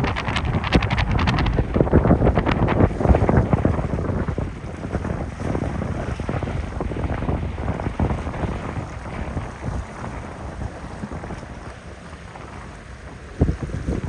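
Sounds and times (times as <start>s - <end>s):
boat engine rumble: 0.0s - 14.0s
wind buffeting microphone: 0.0s - 14.0s.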